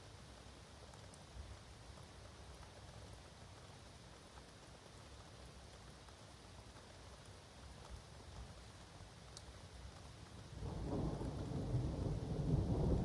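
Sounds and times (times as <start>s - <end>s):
light rain: 0.0s - 13.0s.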